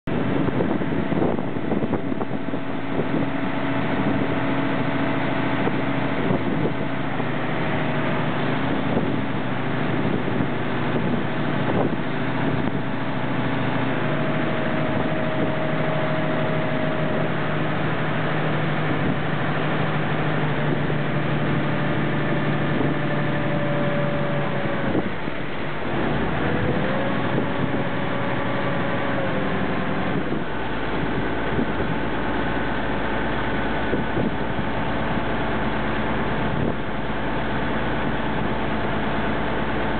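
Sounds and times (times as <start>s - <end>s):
boat engine running: 0.0s - 39.9s
churning wake rushing: 0.0s - 39.9s
wind on microphone: 0.0s - 39.9s.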